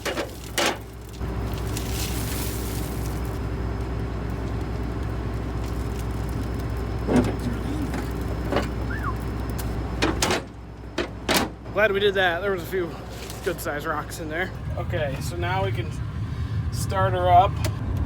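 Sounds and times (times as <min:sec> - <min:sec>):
engine droning: 0:00.0 - 0:18.0.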